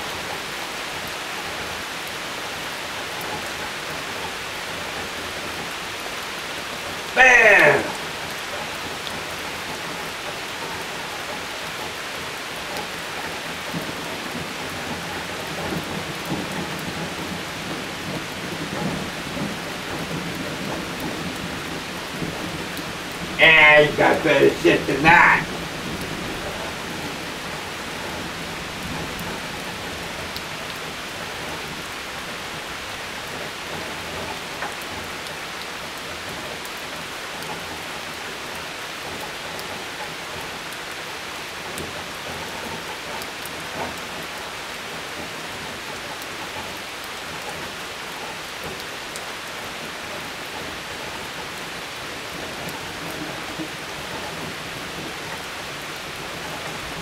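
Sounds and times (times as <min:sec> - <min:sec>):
steady rain hiss: 0:00.0 - 0:57.0
raindrop ticks: 0:00.1 - 0:23.4, 0:24.0 - 0:57.0.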